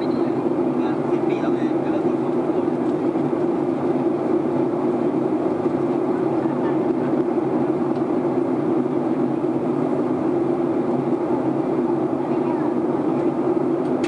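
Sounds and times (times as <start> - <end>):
airflow over fuselage: 0.0 - 14.0
jet engine drone: 0.0 - 14.0.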